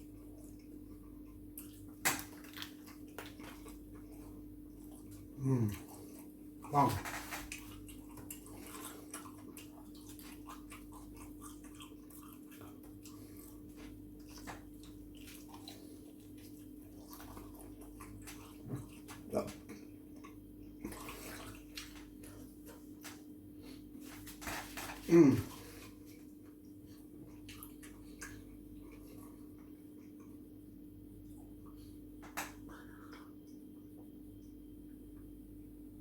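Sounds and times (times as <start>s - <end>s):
person chewing food: 0.0s - 34.7s
steady low hum: 0.0s - 36.0s.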